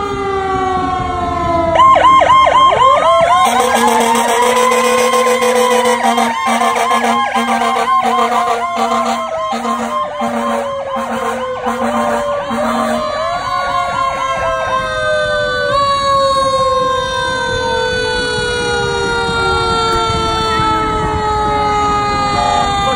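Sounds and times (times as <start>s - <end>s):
fire truck sirens: 0.0s - 22.9s.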